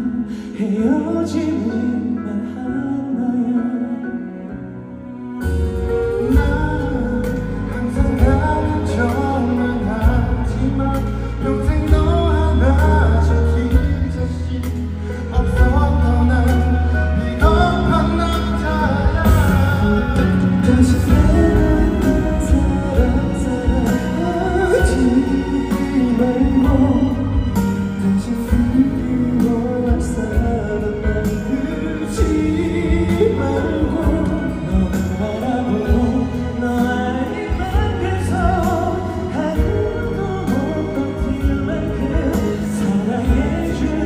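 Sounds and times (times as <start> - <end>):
man singing pop ballad: 0.0 - 44.0.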